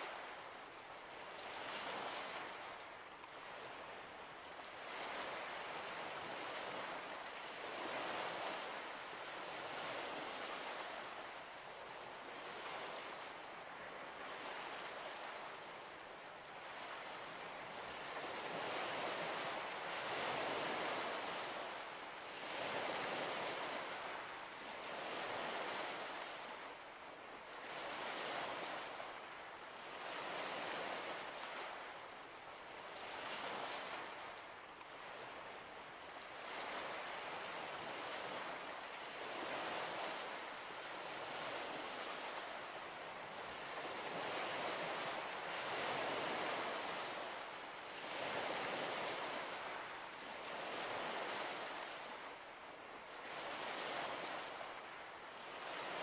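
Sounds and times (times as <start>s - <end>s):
small waves washing onto shore: 0.0s - 56.0s.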